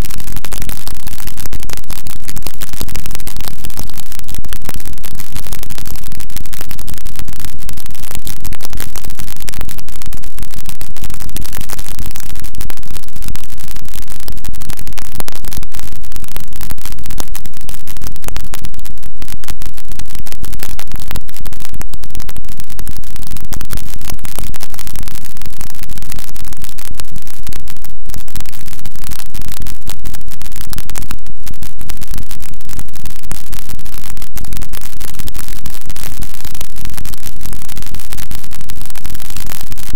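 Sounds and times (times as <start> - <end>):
harsh distorted static noise music: 0.0 - 39.9.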